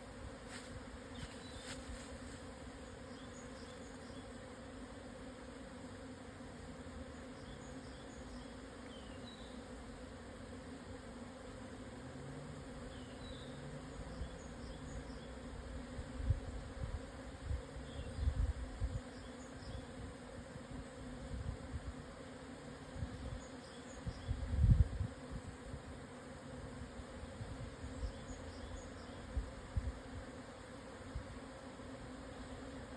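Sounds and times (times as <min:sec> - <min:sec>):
bees buzzing: 0:00.0 - 0:32.9.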